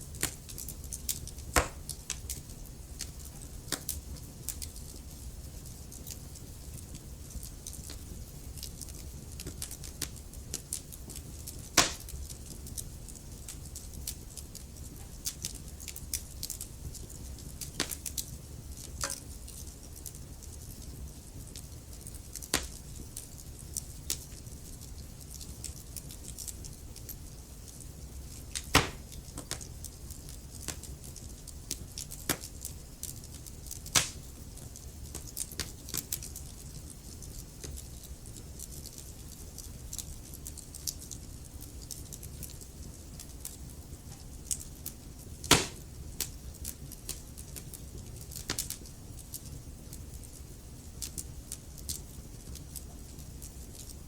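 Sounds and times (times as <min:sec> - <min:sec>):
fire low rumble: 0:00.0 - 0:54.0
wood fire crackling: 0:00.0 - 0:54.0.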